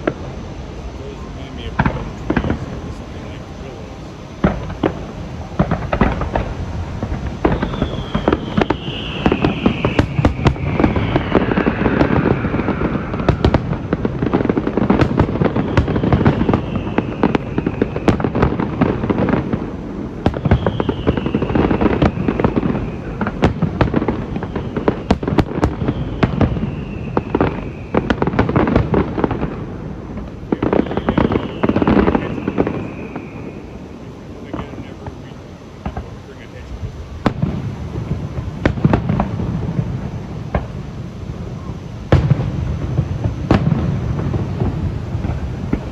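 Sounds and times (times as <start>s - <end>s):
falling firework whistles: 0.0s - 45.9s
fireworks bangs and crackling: 0.0s - 45.9s.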